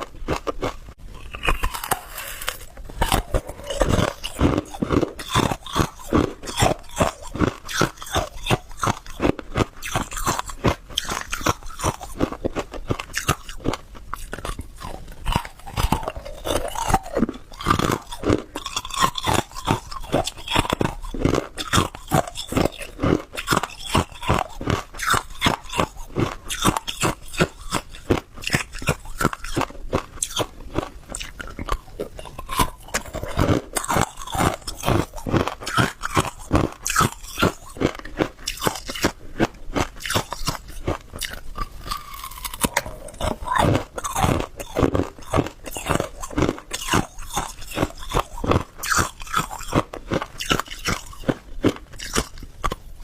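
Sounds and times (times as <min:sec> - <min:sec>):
ice crunching while chewed: 0:00.0 - 0:53.0.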